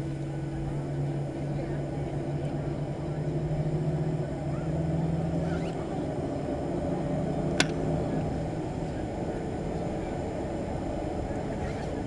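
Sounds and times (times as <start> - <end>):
aircraft cabin rumble: 0.0 - 12.0
low hum: 0.0 - 12.0.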